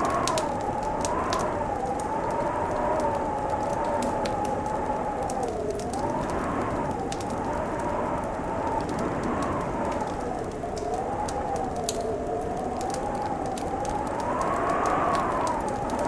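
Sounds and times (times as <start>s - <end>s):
howling wind: 0.0s - 16.0s
wood fire crackling and popping: 0.0s - 16.0s.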